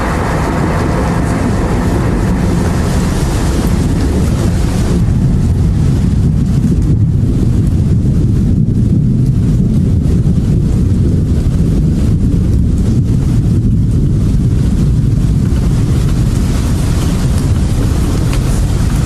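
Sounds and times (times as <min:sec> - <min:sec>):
deep rumbling noise drone: 0:00.0 - 0:19.0.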